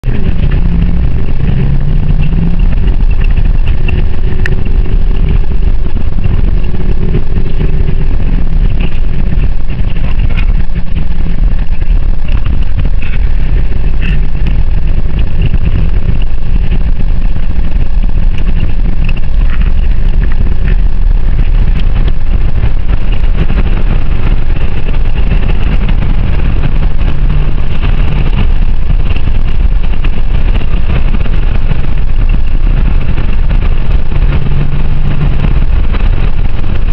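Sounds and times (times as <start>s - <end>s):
car engine drone: 0.0s - 36.9s
road rumble: 0.0s - 36.9s.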